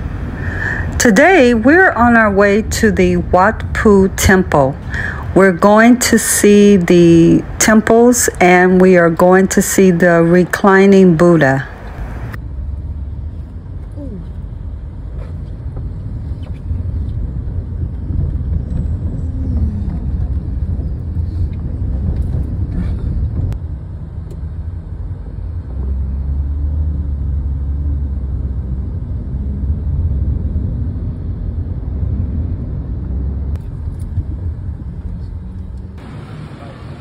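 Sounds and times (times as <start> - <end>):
road noise: 0.0 - 37.0
vehicle engine rumble: 0.0 - 37.0.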